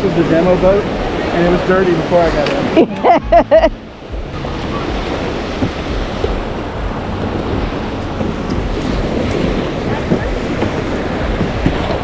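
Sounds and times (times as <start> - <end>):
choppy waves: 0.0 - 12.0
wind buffeting microphone: 0.0 - 12.0.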